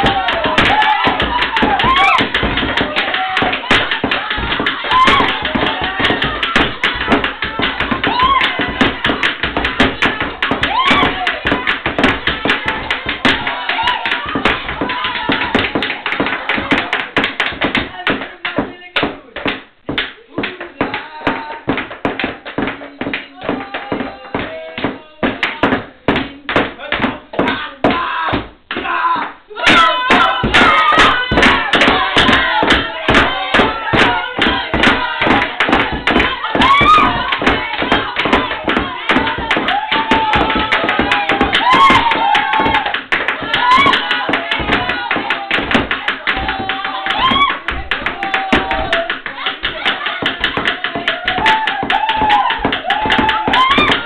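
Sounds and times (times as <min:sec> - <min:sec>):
people shouting and laughing: 0:00.0 - 0:18.2, 0:26.3 - 0:54.0
clapping and slapping table: 0:00.0 - 0:54.0
group chanting and singing: 0:00.0 - 0:54.0.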